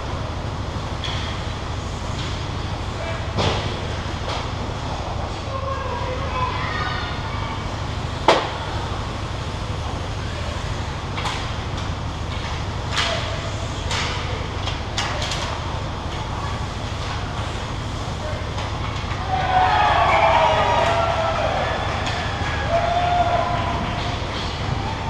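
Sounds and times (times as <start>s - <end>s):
low rink rumble: 0.0s - 25.0s.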